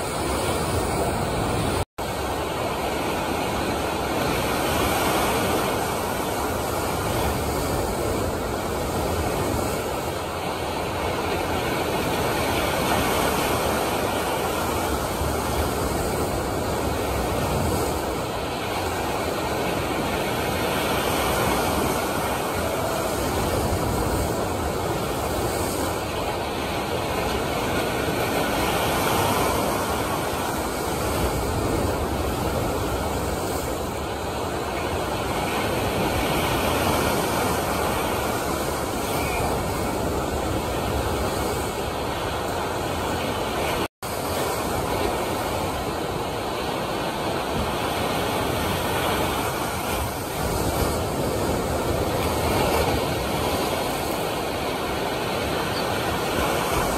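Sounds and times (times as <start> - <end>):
waves breaking: 0.0 - 56.9.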